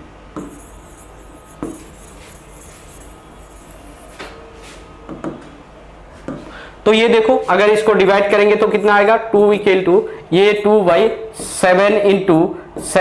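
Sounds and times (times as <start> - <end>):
faint steady hum: 0.0 - 11.4.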